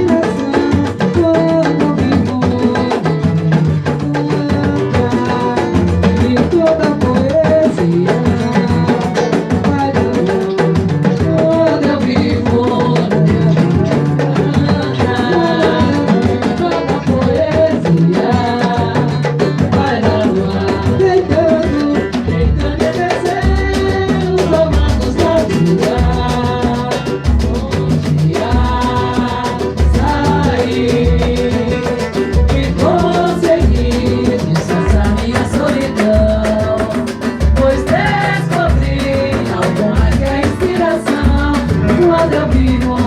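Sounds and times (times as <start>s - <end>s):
percussion ensemble drumming: 0.0s - 43.0s
person singing: 0.0s - 43.0s.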